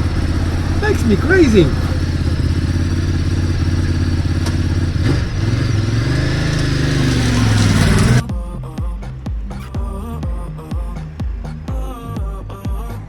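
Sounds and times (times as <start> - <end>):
motorcycle engine accelerating: 0.0 - 12.8.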